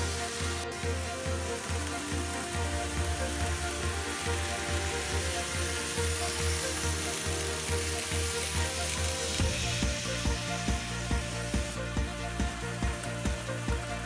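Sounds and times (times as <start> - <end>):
model trains rumbling: 0.0 - 14.0
regular clicking of train wheels: 0.0 - 14.0.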